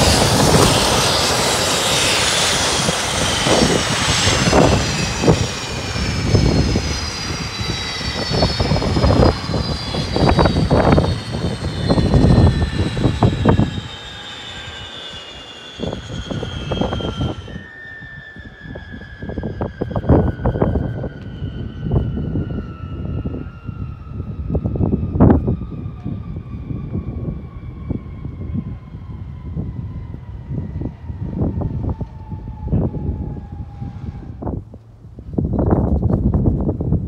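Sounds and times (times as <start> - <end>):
low rumbling surges: 0.0 - 37.0
turboprop engines spooling down: 0.0 - 37.0.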